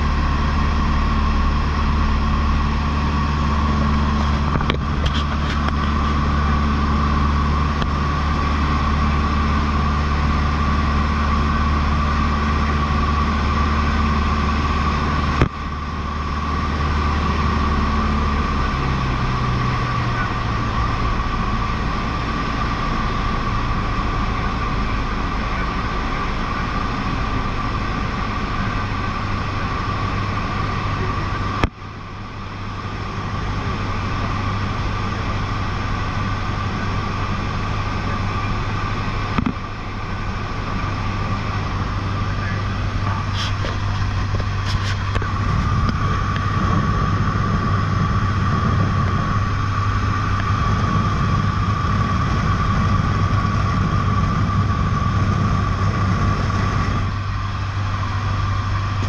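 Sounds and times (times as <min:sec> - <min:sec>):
airplane engine cabin drone: 0:00.0 - 0:59.0.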